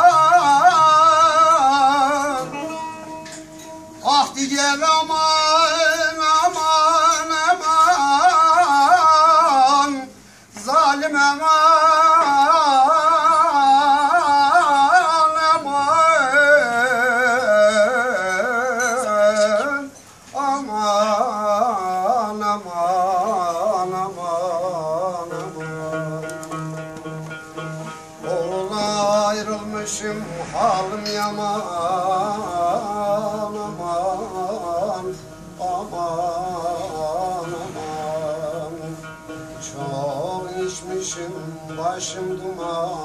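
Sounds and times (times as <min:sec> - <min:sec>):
man singing: 0:00.0 - 0:27.4, 0:28.2 - 0:43.0
plucked lute: 0:00.0 - 0:43.0.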